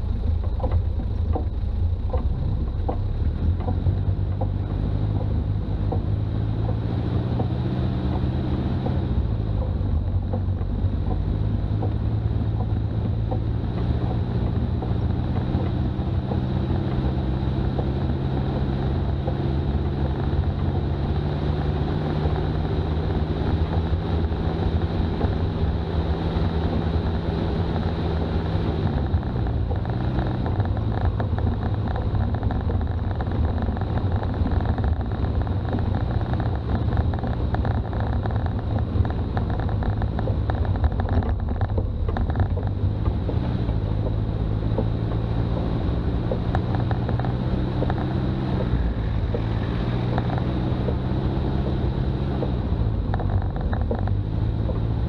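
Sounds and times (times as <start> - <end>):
diesel engine running: 0.0 - 55.0
wind and road noise: 0.0 - 55.0.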